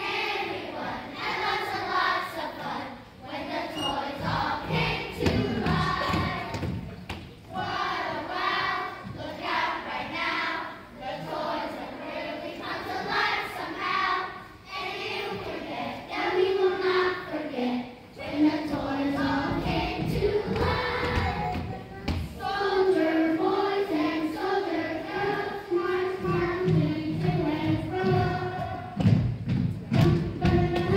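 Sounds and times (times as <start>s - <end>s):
children's choir singing: 0.0s - 30.9s.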